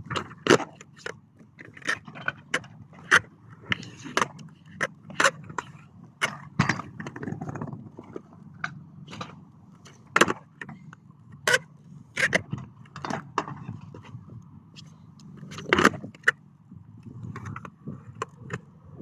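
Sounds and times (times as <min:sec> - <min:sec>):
skateboard clacking on concrete: 0:00.0 - 0:07.9, 0:08.6 - 0:13.7, 0:15.4 - 0:16.4, 0:17.2 - 0:18.7
steady low rumble: 0:00.0 - 0:19.0.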